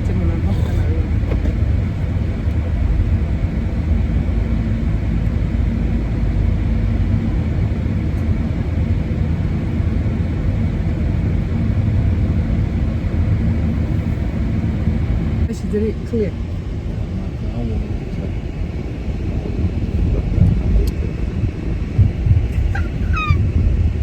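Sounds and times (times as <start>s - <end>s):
car road rumble: 0.0s - 24.0s.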